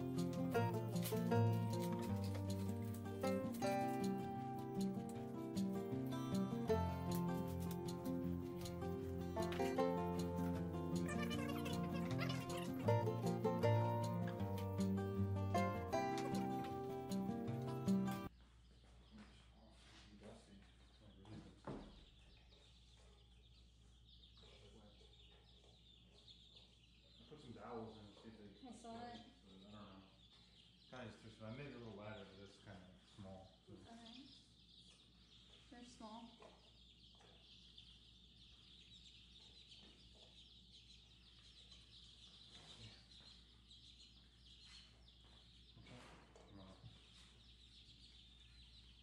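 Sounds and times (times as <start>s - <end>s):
chicks peeping faintly: 0.0s - 49.0s.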